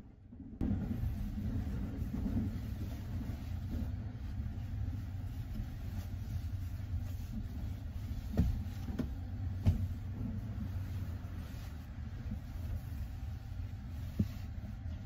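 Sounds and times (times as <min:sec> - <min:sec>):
train rumble inside compartment: 0:00.0 - 0:15.0.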